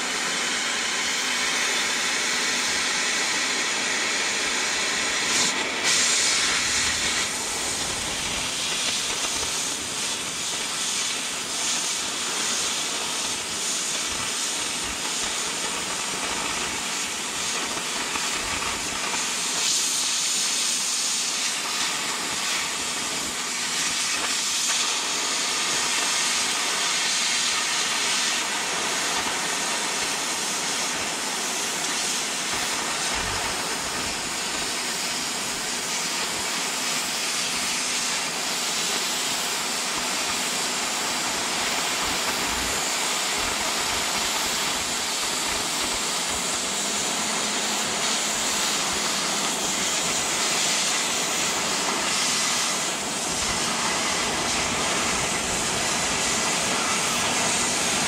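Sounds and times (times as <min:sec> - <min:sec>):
cutting torch hissing: 0:00.0 - 0:58.0.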